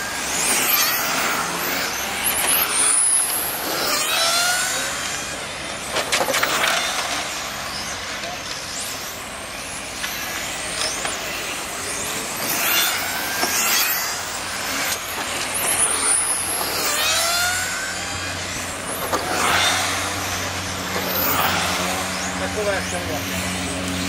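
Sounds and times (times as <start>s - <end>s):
rc car motors whining: 0.0s - 24.0s.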